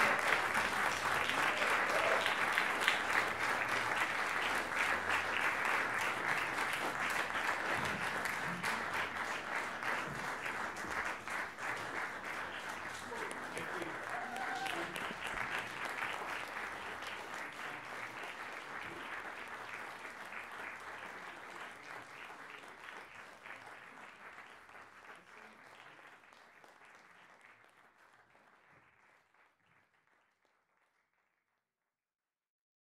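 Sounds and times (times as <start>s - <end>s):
audience applauding: 0.0s - 31.0s.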